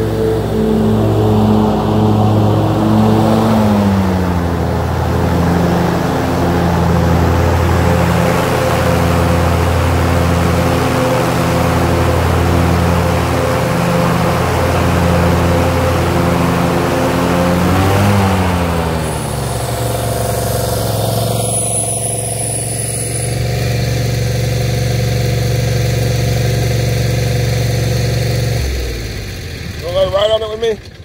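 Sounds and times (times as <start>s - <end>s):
mower engine running: 0.0s - 31.0s.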